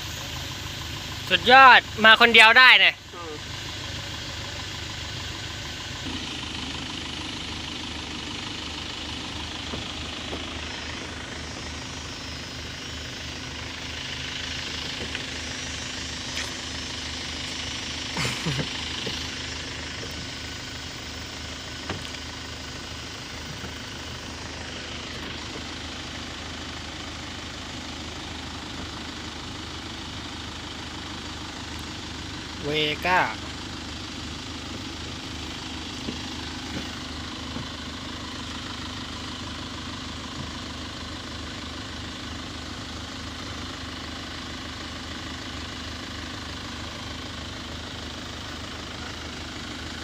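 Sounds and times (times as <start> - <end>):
truck engine idling: 0.0 - 50.0.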